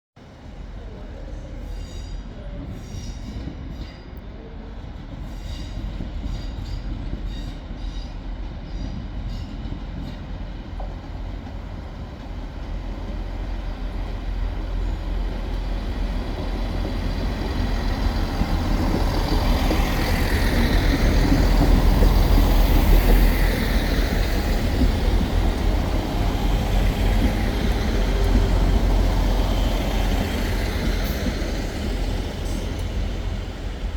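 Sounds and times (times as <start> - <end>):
train rumbling: 0.2 - 33.9.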